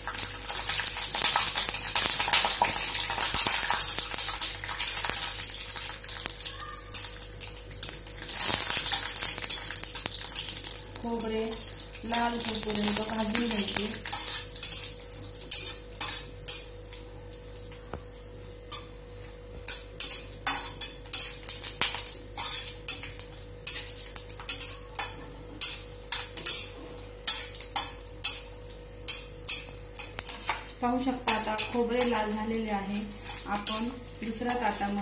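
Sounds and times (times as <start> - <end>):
light sizzle: 0.0 - 35.0.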